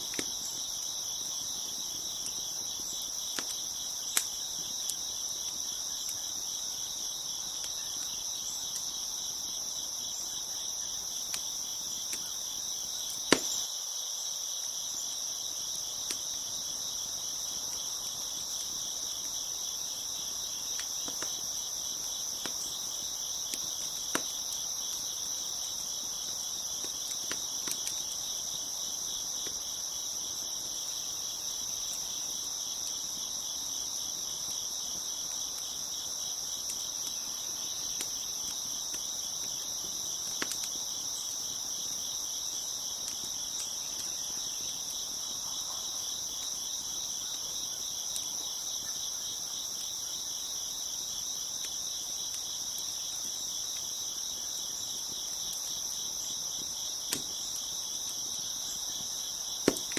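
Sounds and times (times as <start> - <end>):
crickets chirping: 0.0 - 59.9
wood fire crackles: 0.0 - 59.9.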